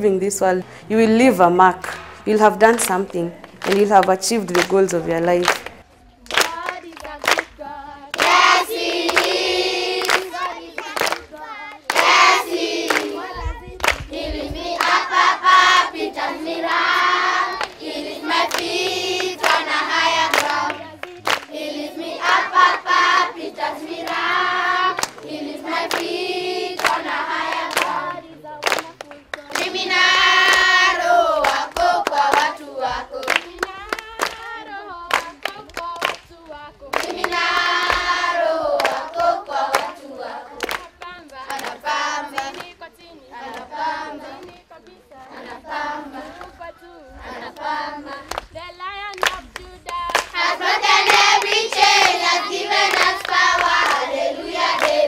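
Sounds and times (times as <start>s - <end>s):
children clapping hands: 1.8s - 46.7s, 47.4s - 55.0s
children singing in chorus: 6.4s - 48.4s, 49.4s - 55.0s.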